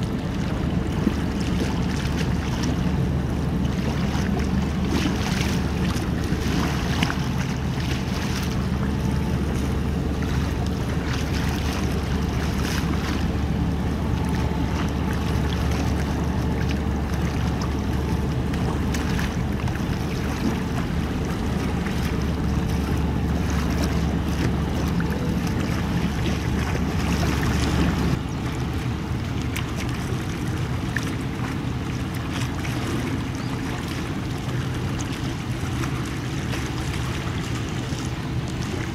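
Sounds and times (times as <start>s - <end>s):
ferry diesel engines droning: 0.0s - 38.9s
water washing: 0.0s - 38.9s.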